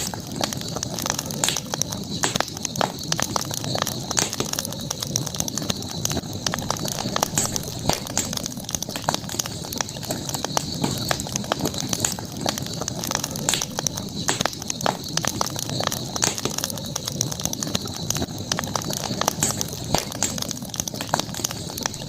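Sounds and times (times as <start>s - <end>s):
campfire crackling: 0.0s - 22.0s
constant high hiss: 0.0s - 22.0s
low rumble of flames: 0.0s - 22.0s.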